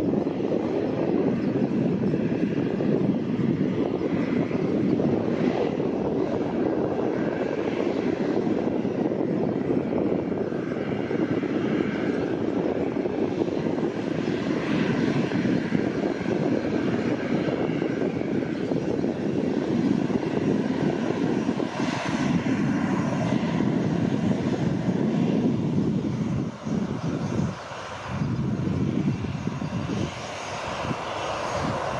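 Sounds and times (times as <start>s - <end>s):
jet engines rumbling with whine: 0.0s - 31.9s.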